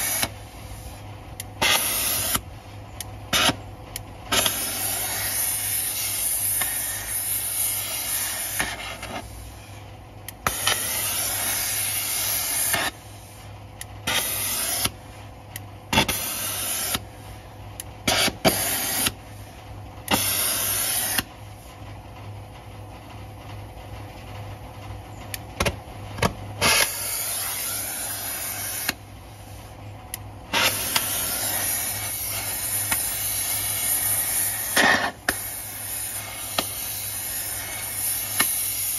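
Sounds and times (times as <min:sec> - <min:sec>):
gas torch hissing: 0:00.0 - 0:15.3, 0:15.9 - 0:21.7, 0:26.6 - 0:38.9.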